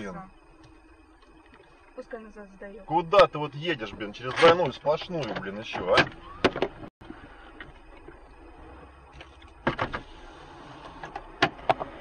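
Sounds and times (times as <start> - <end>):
car interior running noise: 0.0 - 12.0.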